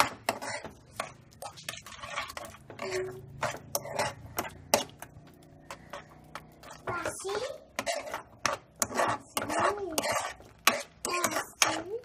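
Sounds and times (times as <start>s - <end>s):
utensil scraping and tapping pan: 0.0s - 12.0s.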